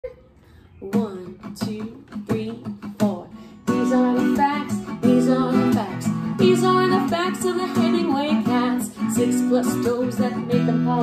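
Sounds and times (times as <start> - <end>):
acoustic guitar strumming: 0.8 - 11.0
woman singing: 0.8 - 11.0.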